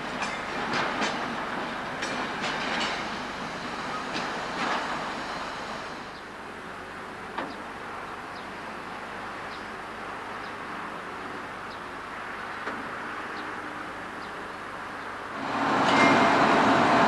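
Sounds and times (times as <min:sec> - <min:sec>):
distant diesel locomotive running: 0:00.0 - 0:17.0.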